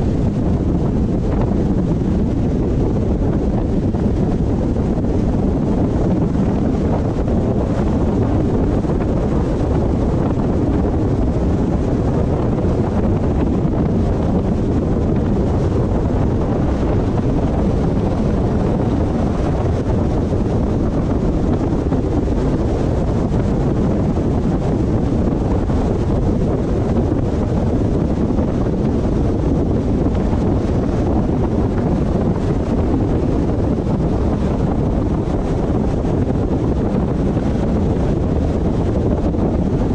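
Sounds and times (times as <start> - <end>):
car road and wind noise: 0.0 - 39.9.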